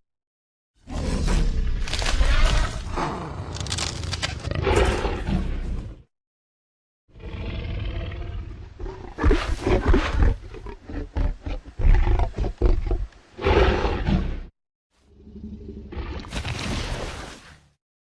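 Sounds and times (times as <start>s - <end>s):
animal roaring and growling: 0.8s - 6.1s, 7.1s - 14.5s, 15.1s - 17.3s.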